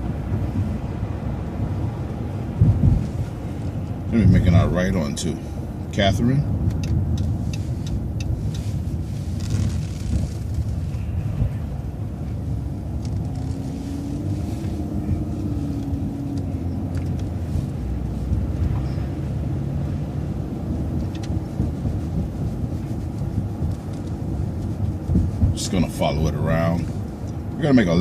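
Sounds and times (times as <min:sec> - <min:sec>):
bus engine and road rumble: 0:00.0 - 0:28.0
bus whine: 0:00.0 - 0:28.0.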